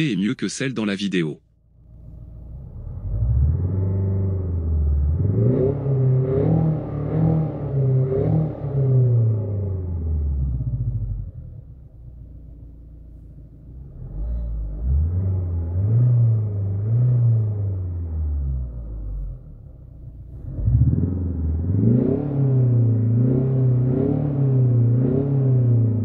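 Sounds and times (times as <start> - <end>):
simulated engine sound from speakers: 1.1 - 26.0
car engine revving: 1.8 - 26.0.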